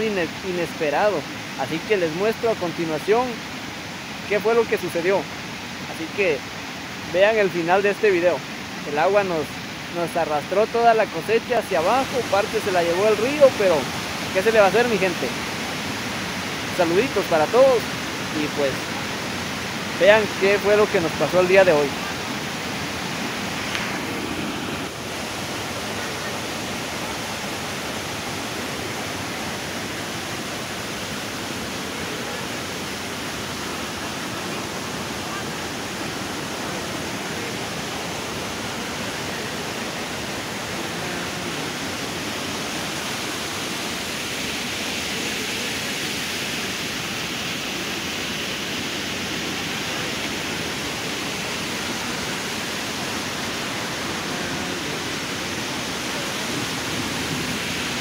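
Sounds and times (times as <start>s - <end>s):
rushing runoff water: 0.0s - 58.0s.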